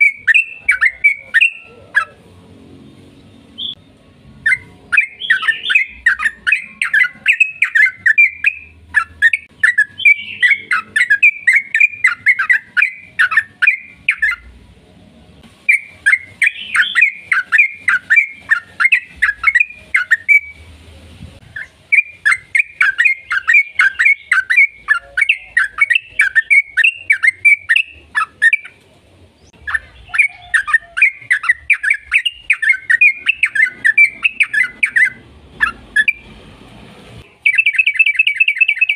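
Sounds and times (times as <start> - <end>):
bulbul chattering song: 0.0 - 14.6, 15.4 - 20.8, 21.4 - 36.4, 37.2 - 38.9.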